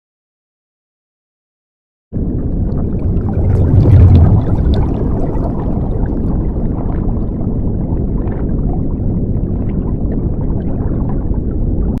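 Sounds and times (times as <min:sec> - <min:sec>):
low rumbling noise: 0:02.2 - 0:12.0.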